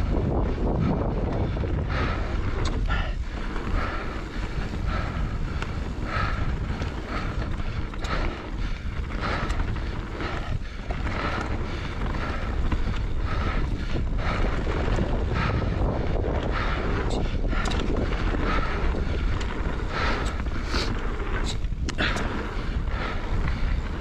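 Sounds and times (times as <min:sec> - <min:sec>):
bike rolling on dirt trail: 0:00.0 - 0:24.0
faint regular pulsing: 0:00.0 - 0:24.0
wind rushing over microphone: 0:00.0 - 0:24.0.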